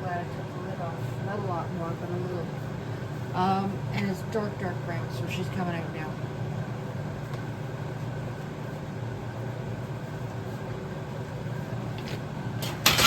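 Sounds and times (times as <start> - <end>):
appliance fan humming: 0.0 - 13.0.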